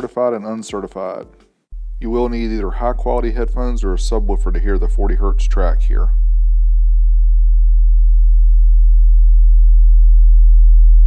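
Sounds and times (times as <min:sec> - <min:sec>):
low sine-wave test tone: 0:01.7 - 0:11.0.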